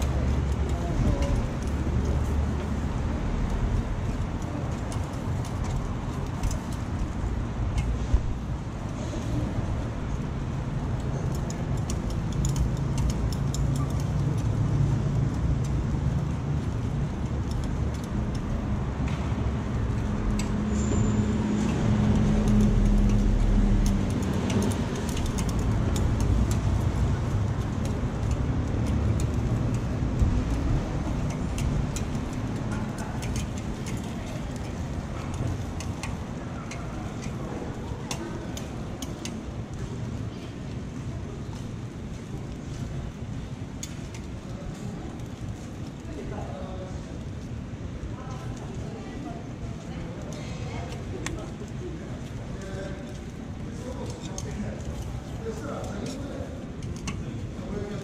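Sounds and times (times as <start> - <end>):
street noise rumble: 0.0 - 58.0.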